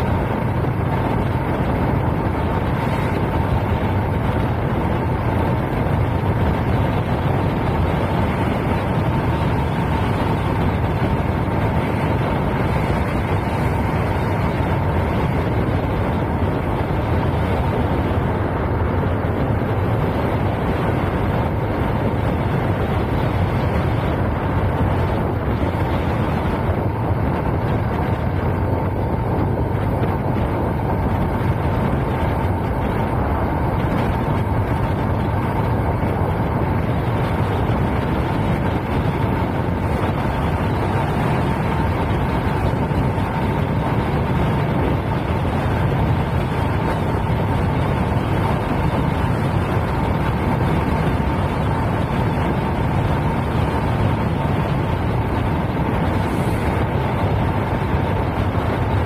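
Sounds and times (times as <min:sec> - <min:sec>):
motorcycle engine drone: 0:00.0 - 0:59.0
wind rushing over microphone: 0:00.0 - 0:59.0.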